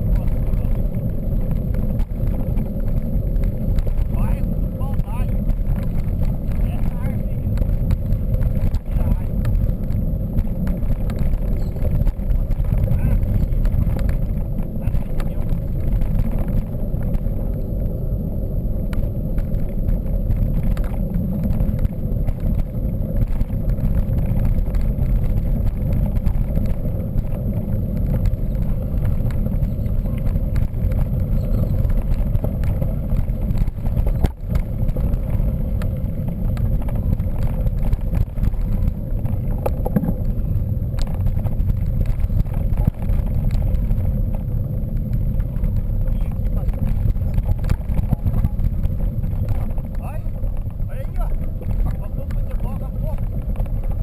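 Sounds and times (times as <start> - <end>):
bike tyres rumbling on trail: 0.0 - 54.0.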